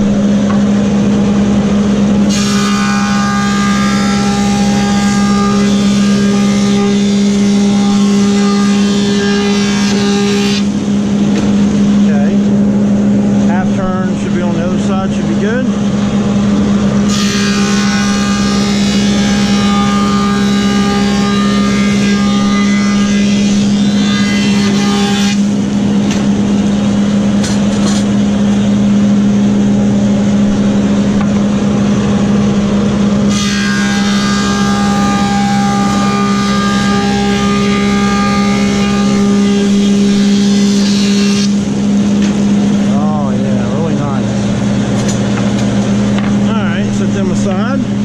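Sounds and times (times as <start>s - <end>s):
planer cutting whine: 0.0s - 48.0s
planer humming: 0.0s - 48.0s.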